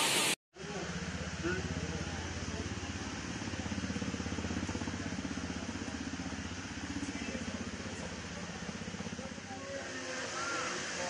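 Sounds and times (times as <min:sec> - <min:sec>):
steady hiss: 0:00.0 - 0:11.0
small engine idling: 0:00.6 - 0:11.0.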